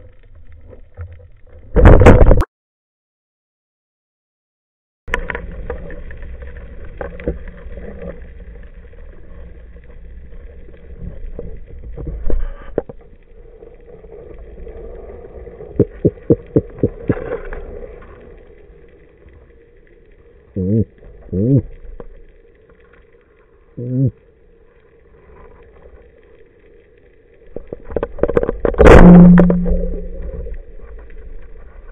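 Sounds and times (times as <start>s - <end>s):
underwater rush of water: 5.1s - 31.9s.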